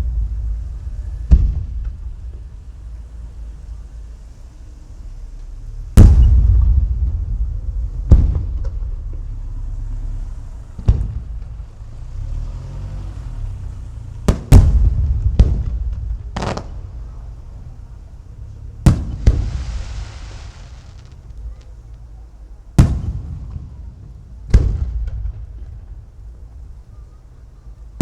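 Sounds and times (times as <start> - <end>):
firework shells booming: 0.0 - 12.2, 13.4 - 26.9.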